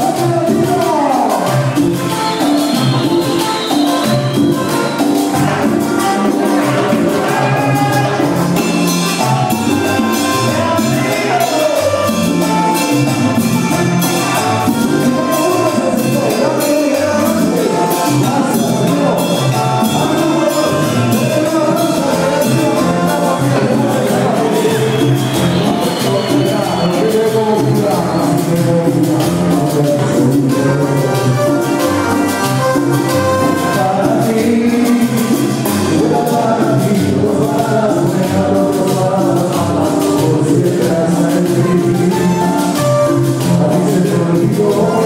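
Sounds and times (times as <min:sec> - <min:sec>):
latin dance band playing: 0:00.0 - 0:45.0
percussion: 0:00.0 - 0:45.0
person singing: 0:00.0 - 0:45.0.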